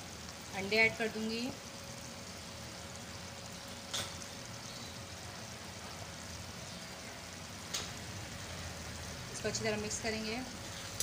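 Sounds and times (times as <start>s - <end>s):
pan simmering with low sizzling: 0.0s - 11.0s.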